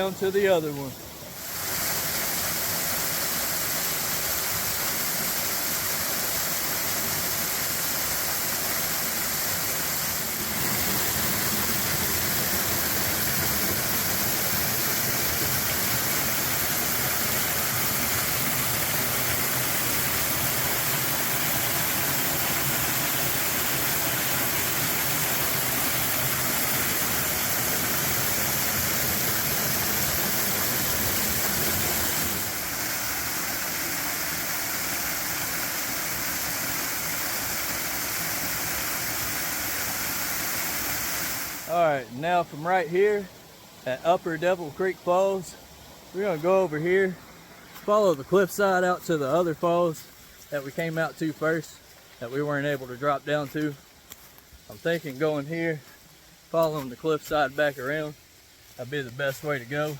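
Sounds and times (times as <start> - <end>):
waterfall rushing: 0.0 - 51.6.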